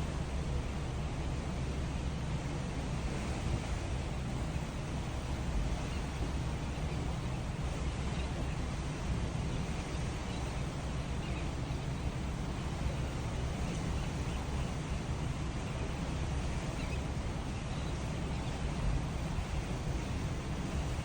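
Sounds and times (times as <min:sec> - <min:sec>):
waterfront ambience: 0:00.0 - 0:21.0
wind rumble on microphone: 0:00.0 - 0:21.0.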